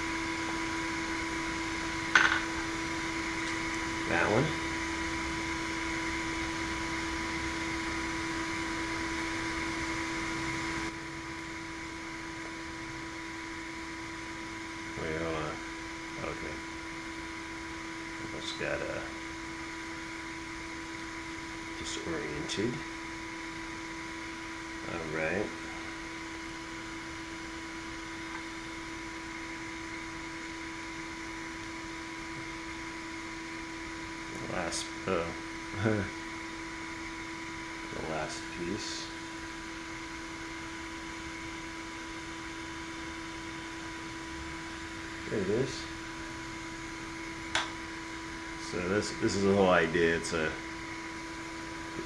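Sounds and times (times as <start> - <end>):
fan motor humming: 0.0 - 52.0.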